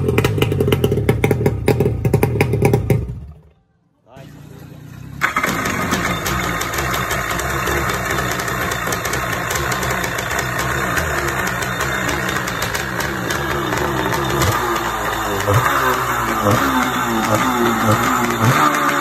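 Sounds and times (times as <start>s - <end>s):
two-stroke engine idling: 0.0s - 3.4s, 4.1s - 19.0s.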